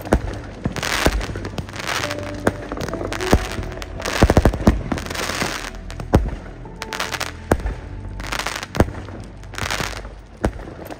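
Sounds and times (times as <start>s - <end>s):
fireworks bangs: 0.0s - 10.9s
fireworks crackling: 0.0s - 10.9s.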